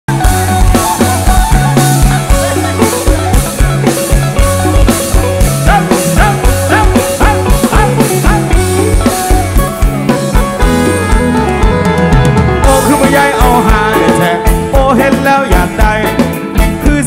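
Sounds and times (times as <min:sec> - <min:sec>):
bass: 0:00.0 - 0:17.0
drum beat: 0:00.1 - 0:17.0
live rock band: 0:00.1 - 0:17.0
lead instrument bending notes: 0:00.2 - 0:14.9.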